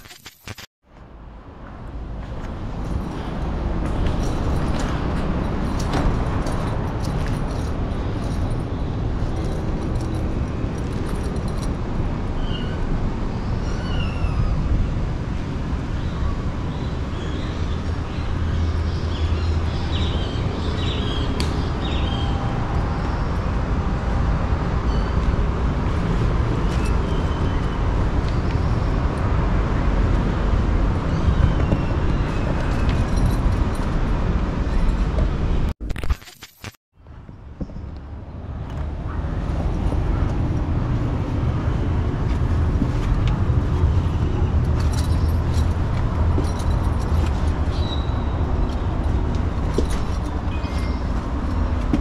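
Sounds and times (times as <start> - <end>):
street traffic rumble: 0.0 - 52.0.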